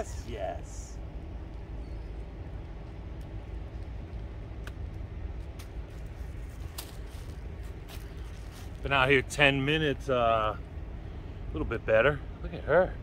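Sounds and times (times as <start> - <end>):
distant highway traffic: 0.0 - 13.0.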